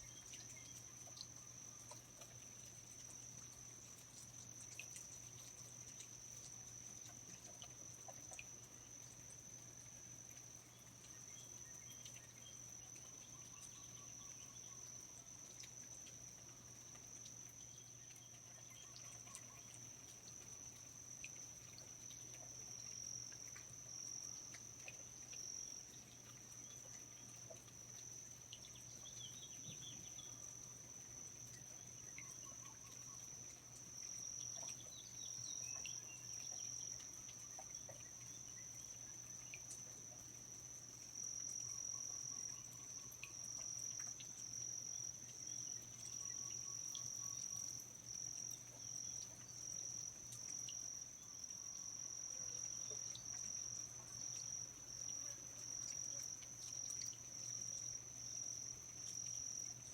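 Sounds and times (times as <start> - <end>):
crickets trilling drone: 0.0 - 59.9
faint insect chirps: 0.0 - 59.9.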